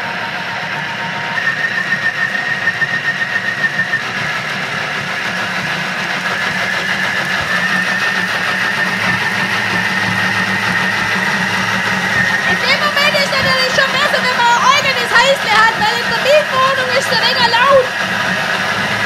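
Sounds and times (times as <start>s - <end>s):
food processor whining: 0.0s - 19.0s.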